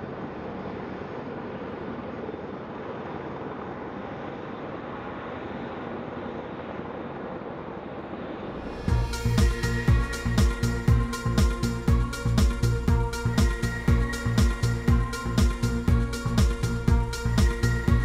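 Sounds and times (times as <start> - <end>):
helicopters rotors droning: 0.0 - 18.0.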